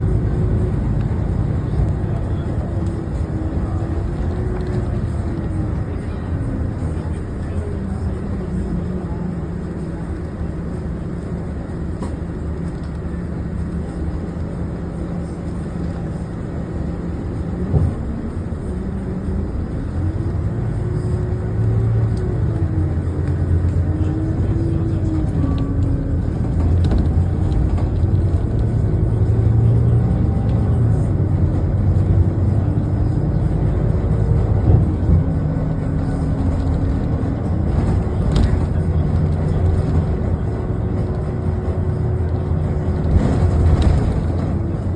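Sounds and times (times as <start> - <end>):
bus engine and road hum: 0.0 - 44.9.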